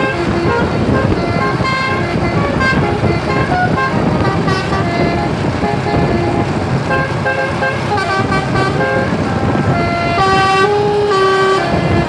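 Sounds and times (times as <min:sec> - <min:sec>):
bus engine noise: 0:00.0 - 0:12.0
bus horn playing a tune: 0:00.0 - 0:12.0.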